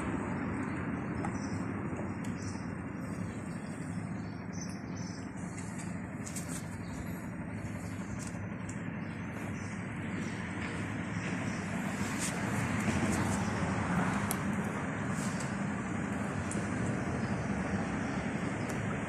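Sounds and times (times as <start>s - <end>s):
outdoor background rumble: 0.0s - 19.0s.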